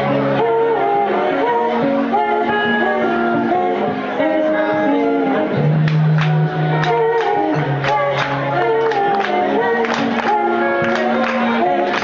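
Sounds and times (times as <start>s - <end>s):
bass line: 0.0s - 12.0s
live band music with singing: 0.0s - 12.0s.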